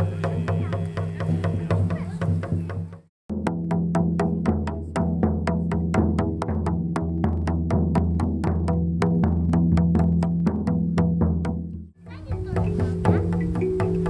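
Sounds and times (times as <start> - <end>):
frame drums beaten fast: 0.0 - 14.0.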